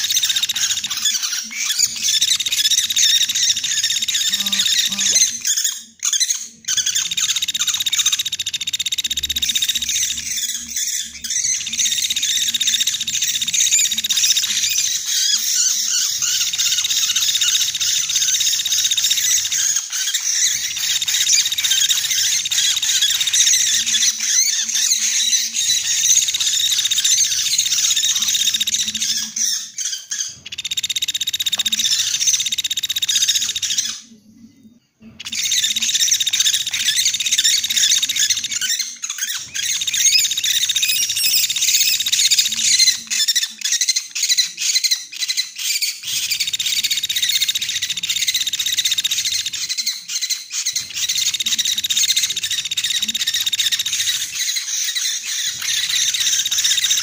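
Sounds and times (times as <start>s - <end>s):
rapid high-pitched bird chirping: 0.0s - 57.0s.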